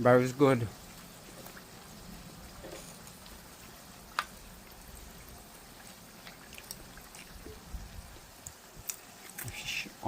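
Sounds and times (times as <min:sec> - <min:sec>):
hot oil sizzling with pops: 0:00.0 - 0:10.0.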